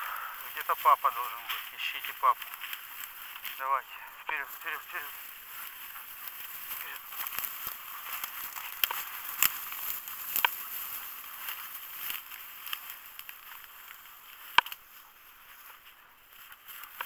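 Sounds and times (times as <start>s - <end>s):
dry grass rustling and crackling: 0.0s - 17.0s
stems snapping: 0.1s - 3.7s, 4.3s - 15.0s, 16.4s - 17.0s.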